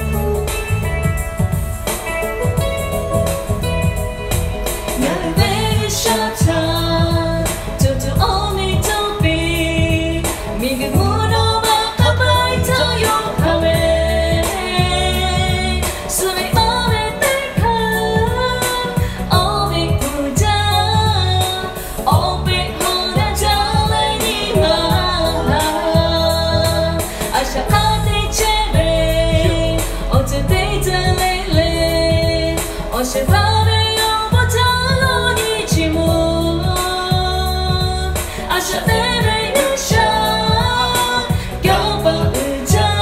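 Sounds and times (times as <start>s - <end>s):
bass: 0.0s - 43.0s
steady drum beat: 0.0s - 43.0s
woman singing: 4.9s - 43.0s.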